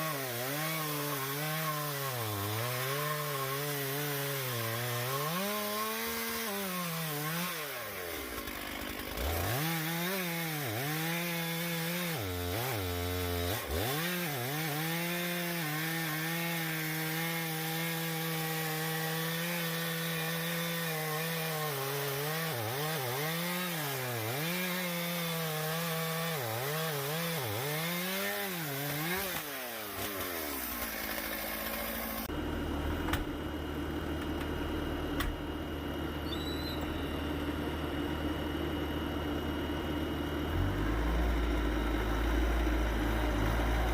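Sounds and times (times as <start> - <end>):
chainsaw cutting wood: 0.0 - 32.4, 33.2 - 43.9.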